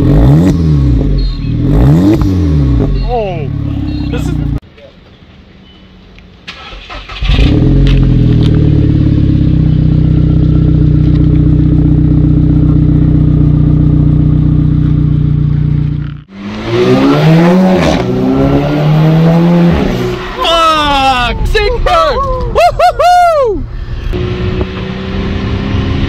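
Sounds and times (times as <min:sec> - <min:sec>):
car engine idling and revving: 0:00.0 - 0:04.6, 0:06.0 - 0:20.4, 0:23.6 - 0:26.0.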